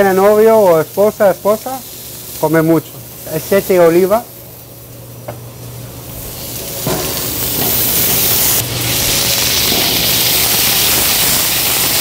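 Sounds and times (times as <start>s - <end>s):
chicken sizzling in a pan: 0.0s - 5.0s, 5.6s - 12.0s.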